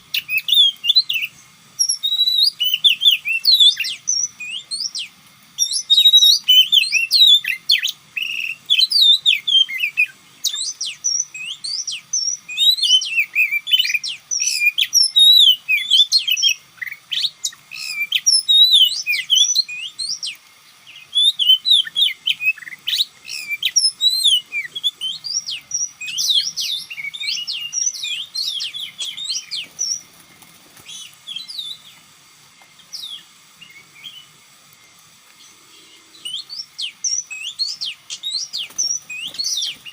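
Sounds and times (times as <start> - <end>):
bird song whistled notes: 0.0 - 32.1, 32.8 - 39.9.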